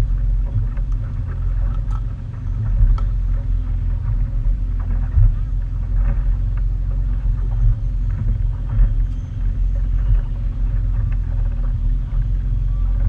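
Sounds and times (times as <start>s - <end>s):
motorboat engine rumble: 0.0s - 13.0s.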